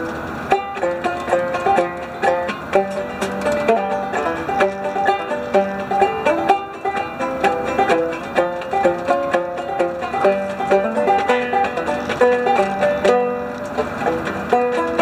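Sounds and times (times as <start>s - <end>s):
banjo played clawhammer style: 0.0s - 15.0s.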